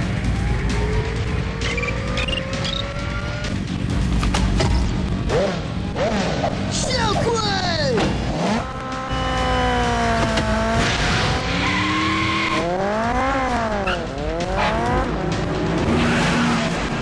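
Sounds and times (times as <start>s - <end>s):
motorcycle engine revving: 0.0s - 7.2s, 7.9s - 17.0s.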